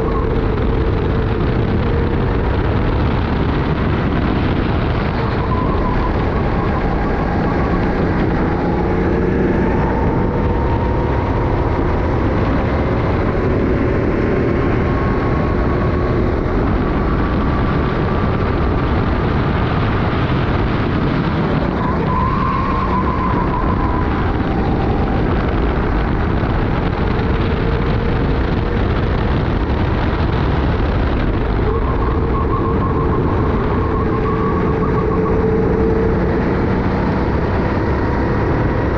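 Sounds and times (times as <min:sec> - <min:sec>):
steady rushing noise: 0:00.0 - 0:38.9.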